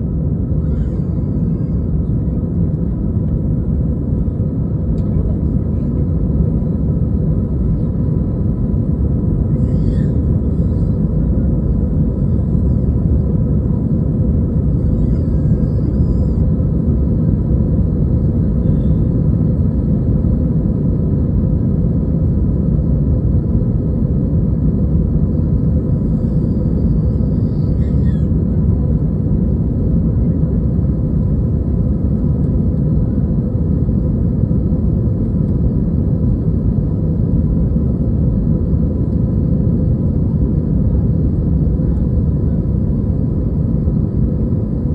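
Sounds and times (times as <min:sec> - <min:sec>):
jet engines rumbling with whine: 0:00.0 - 0:44.9.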